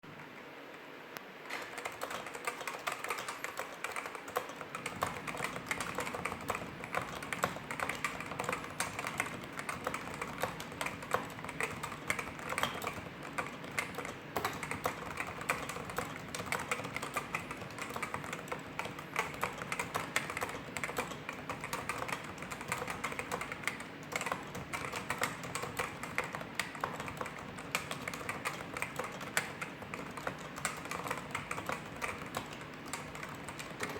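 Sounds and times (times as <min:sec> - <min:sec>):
keyboard typing: 0:01.5 - 0:33.9.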